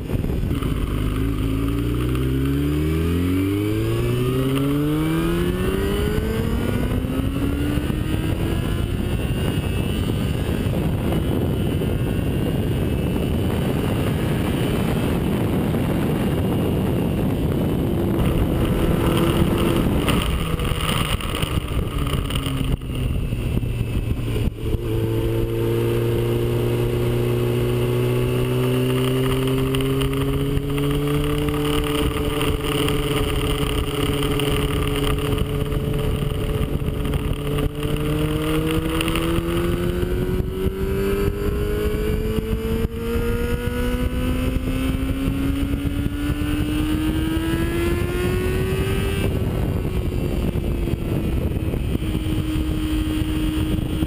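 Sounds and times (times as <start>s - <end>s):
motorcycle engine pulling hard: 0.0s - 54.0s
wind rushing over microphone: 0.0s - 54.0s.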